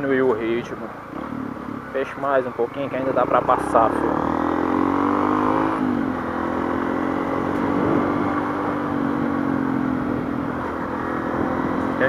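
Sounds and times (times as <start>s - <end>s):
motorcycle engine running: 0.9s - 12.0s.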